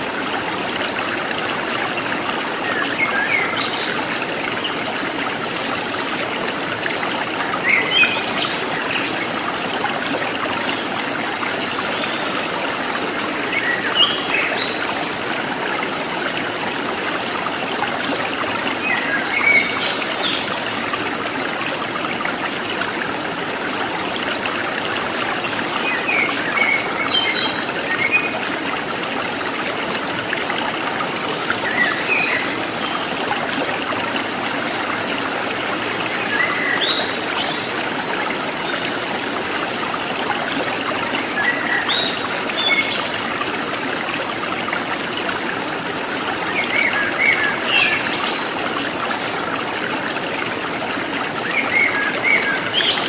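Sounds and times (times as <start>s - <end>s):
forest stream trickling: 0.0s - 53.0s.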